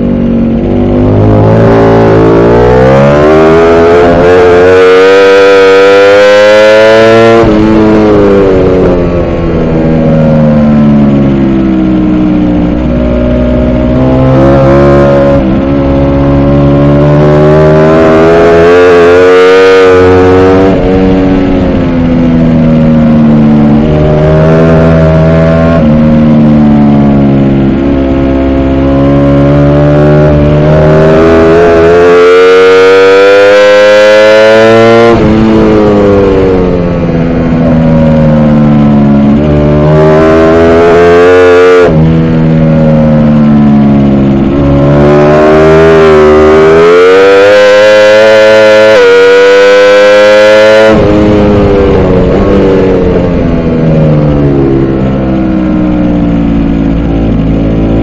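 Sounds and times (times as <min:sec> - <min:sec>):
motorcycle engine at race pace: 0:00.0 - 0:58.0.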